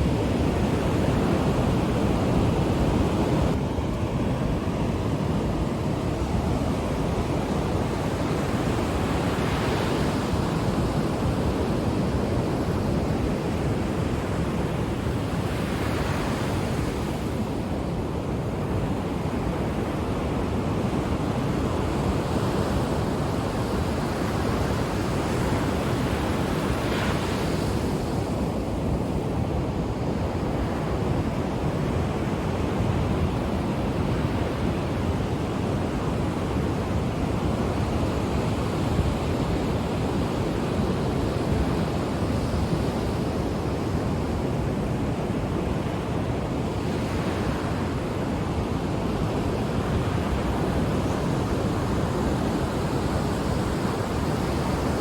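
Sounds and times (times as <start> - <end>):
ocean waves breaking on shore: 0.0 - 55.0
wind on microphone: 0.0 - 55.0.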